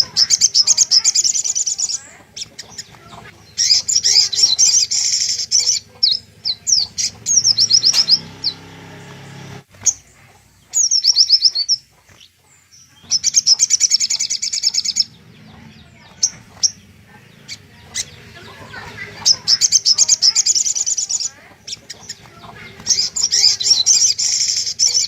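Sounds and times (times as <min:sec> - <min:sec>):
bird singing high trills: 0:00.0 - 0:25.0.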